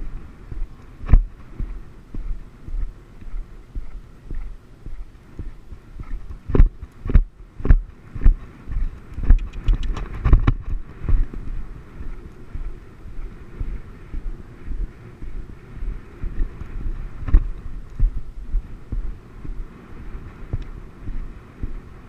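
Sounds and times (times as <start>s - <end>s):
horse hooves thudding on turf: 0.0s - 21.9s
wind buffeting microphone: 0.0s - 22.0s.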